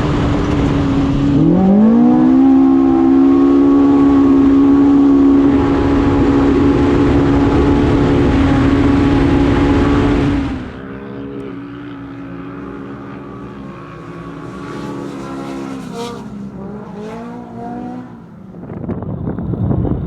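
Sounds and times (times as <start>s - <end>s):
utv engine revving: 0.0s - 20.0s.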